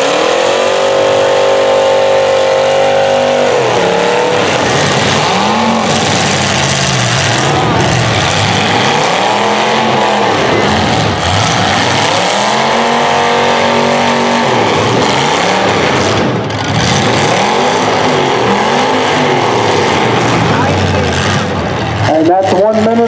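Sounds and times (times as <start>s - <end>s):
car engines revving hard: 0.0s - 23.0s
loud engine noise: 0.0s - 23.0s.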